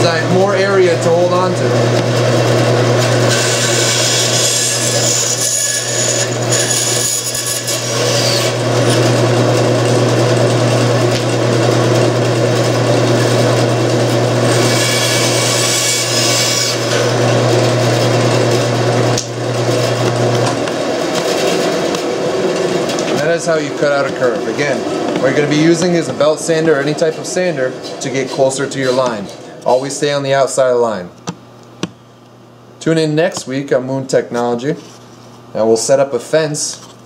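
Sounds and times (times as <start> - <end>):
bandsaw motor hum: 0.0 - 30.0.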